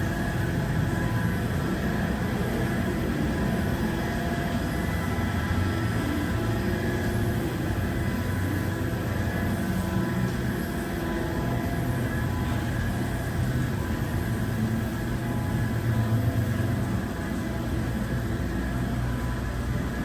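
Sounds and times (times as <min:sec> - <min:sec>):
car wash machinery hum and rush: 0:00.0 - 0:20.0.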